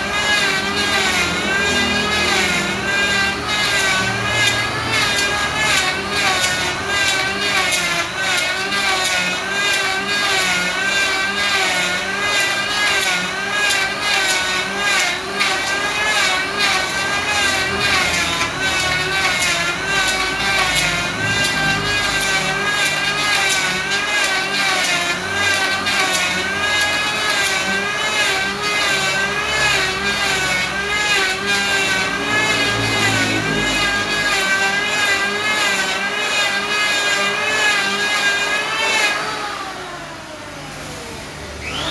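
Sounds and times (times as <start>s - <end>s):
electric hand planer cutting wood: 0.0s - 41.9s.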